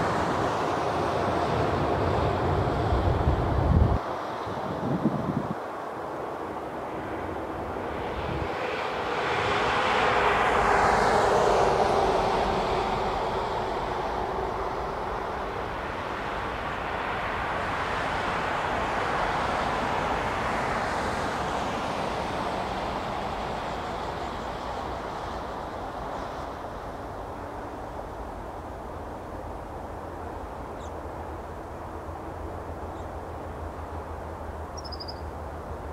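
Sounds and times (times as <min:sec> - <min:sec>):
jet engines roaring: 0:00.0 - 0:29.4.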